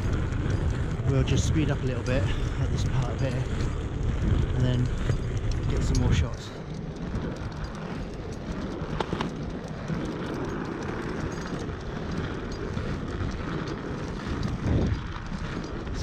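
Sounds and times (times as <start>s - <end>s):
skate wheels rolling on paving: 0.0s - 16.0s.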